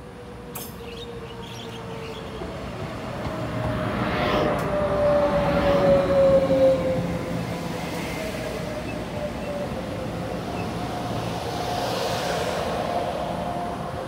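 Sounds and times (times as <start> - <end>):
electric train pulling in: 0.0 - 14.0
rail and running noise: 0.0 - 14.0.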